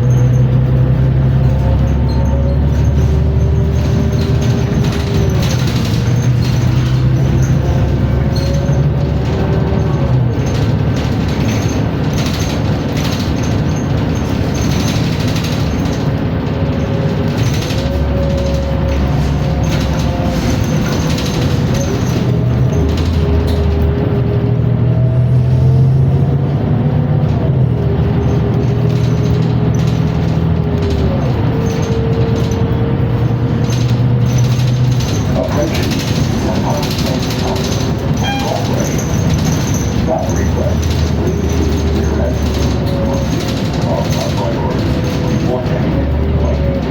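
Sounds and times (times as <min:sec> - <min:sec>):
bus drivetrain and road noise: 0:00.0 - 0:46.9.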